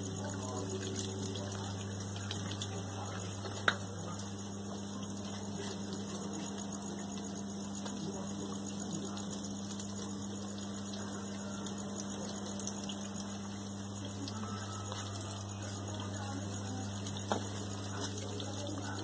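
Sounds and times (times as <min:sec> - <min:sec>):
air pump humming: 0:00.0 - 0:19.0.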